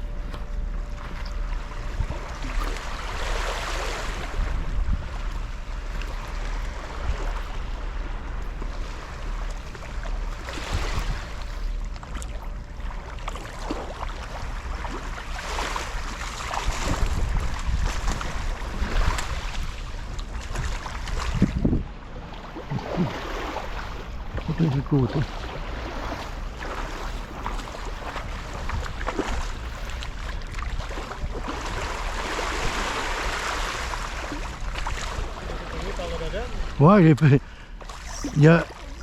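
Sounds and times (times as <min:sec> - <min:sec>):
sea waves washing: 0:00.0 - 0:39.0
wind rumbling on microphone: 0:00.0 - 0:39.0.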